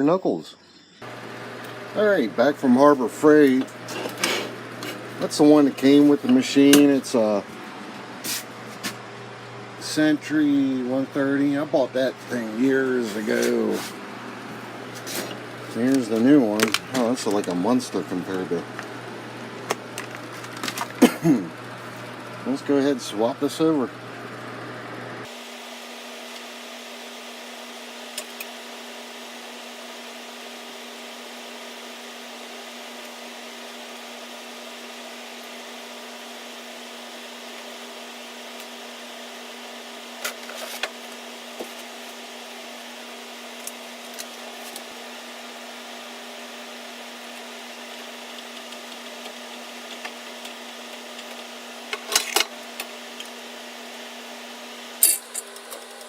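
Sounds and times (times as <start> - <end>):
machine hum with hiss: 0.0 - 56.0.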